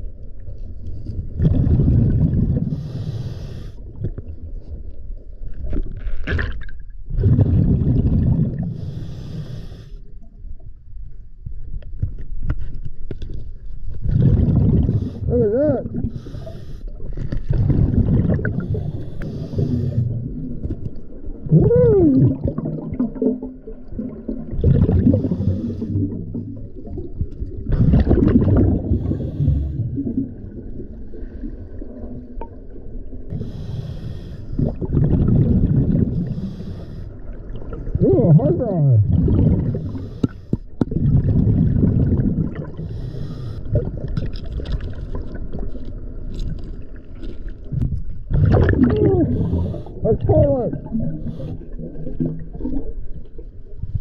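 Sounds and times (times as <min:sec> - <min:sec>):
exhaled bubbles underwater: 0:00.0 - 0:09.5, 0:14.0 - 0:54.0.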